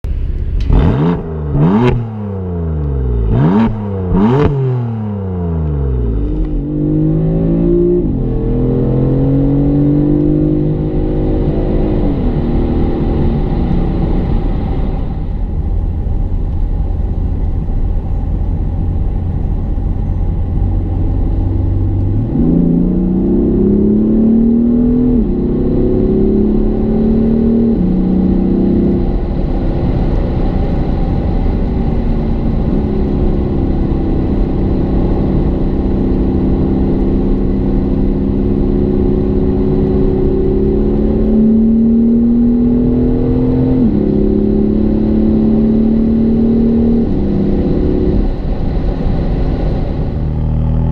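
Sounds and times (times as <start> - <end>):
car engine accelerating through gears: 0.3 - 50.9.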